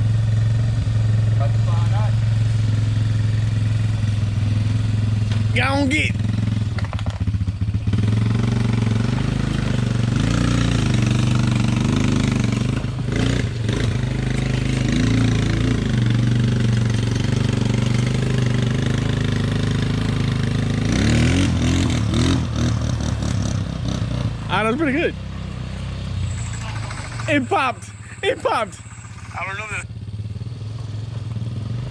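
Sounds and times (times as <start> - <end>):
vehicle engine under load: 0.0 - 31.9.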